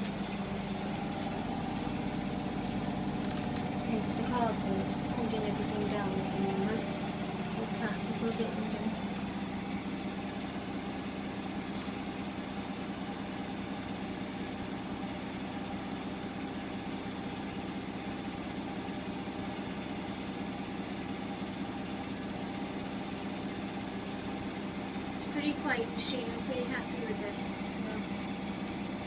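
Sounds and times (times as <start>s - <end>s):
washing machine spinning: 0.0s - 29.0s.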